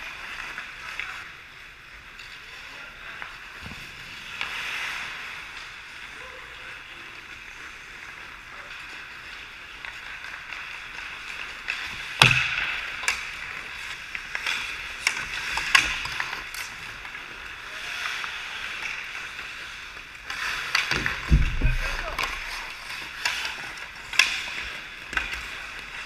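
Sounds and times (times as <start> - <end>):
hockey sticks and puck clacking: 0.0 - 26.0
skates scraping on ice: 0.0 - 26.0.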